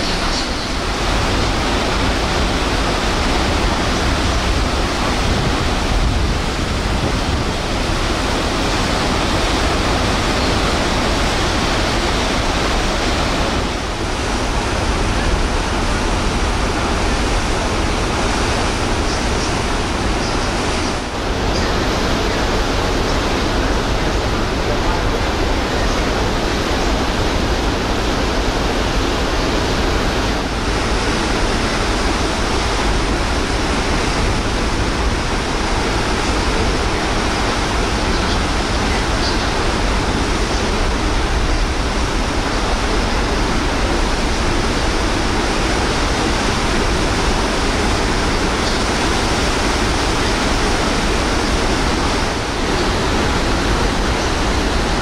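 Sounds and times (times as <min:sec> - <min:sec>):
churning sea water: 0:00.0 - 0:55.0
wind rumble on microphone: 0:00.0 - 0:55.0.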